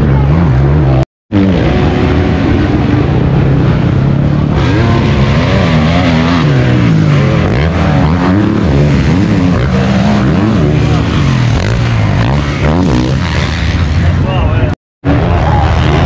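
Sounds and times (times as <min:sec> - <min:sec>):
motorbike engines revving: 0:00.0 - 0:16.0.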